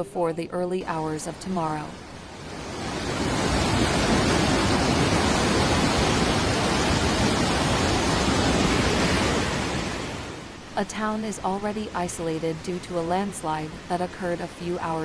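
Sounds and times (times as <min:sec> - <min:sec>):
rushing floodwater: 0:01.1 - 0:15.0.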